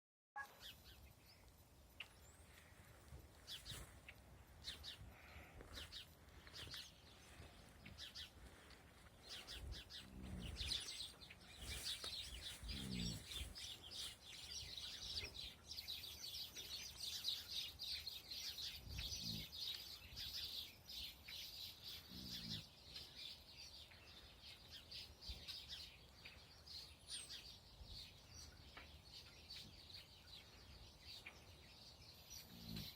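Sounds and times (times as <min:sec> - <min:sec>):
birds chirping: 0:00.4 - 0:32.9.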